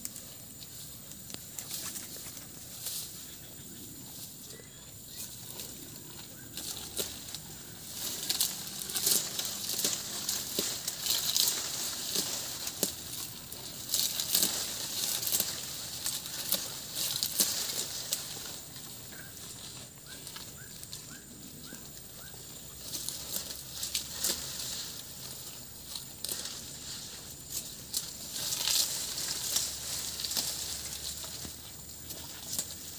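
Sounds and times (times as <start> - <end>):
cow tearing and rustling leaves: 0.0 - 32.9.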